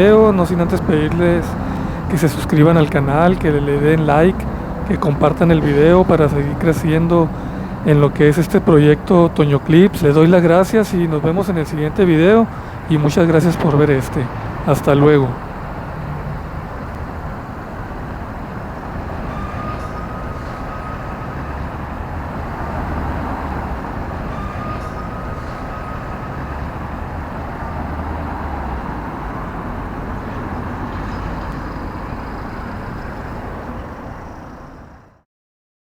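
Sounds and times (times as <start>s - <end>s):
passing cars rumbling: 0.0s - 35.2s.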